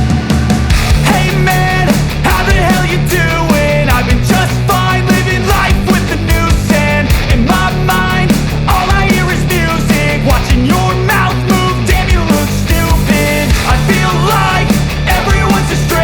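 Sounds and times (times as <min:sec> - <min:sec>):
distorted guitar: 0:00.0 - 0:16.0
driving drum beat: 0:00.0 - 0:16.0
loud rock music: 0:00.0 - 0:16.0.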